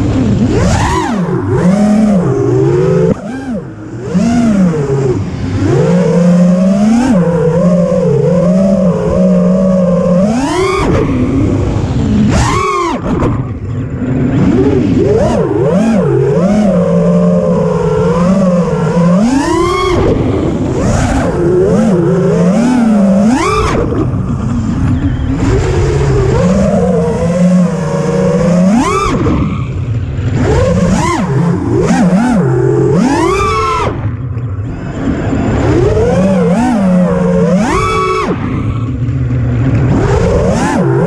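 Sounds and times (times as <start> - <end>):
drone motors and propellers whining: 0.0 - 41.0.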